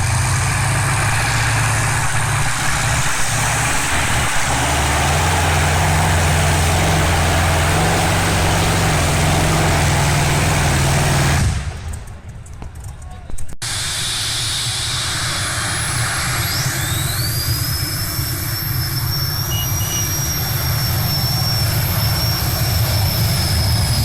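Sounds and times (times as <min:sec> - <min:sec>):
tractor engine running loud: 0:00.0 - 0:13.0, 0:13.6 - 0:24.0.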